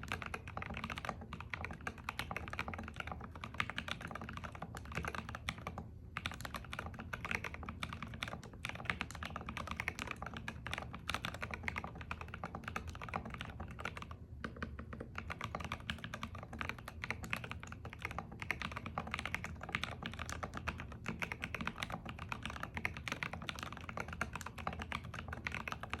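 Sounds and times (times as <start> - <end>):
fast mechanical keyboard typing: 0.0 - 26.0.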